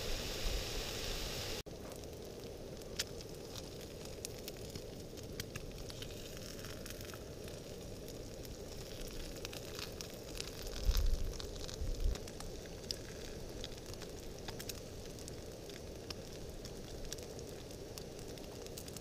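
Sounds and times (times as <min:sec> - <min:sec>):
fat sizzling and popping: 0:00.0 - 0:19.0
gas burner hiss: 0:00.0 - 0:19.0.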